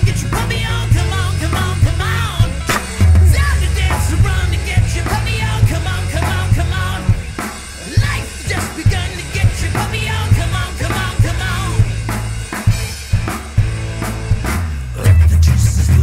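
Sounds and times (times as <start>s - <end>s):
rock song with sung vocals: 0.0s - 16.0s.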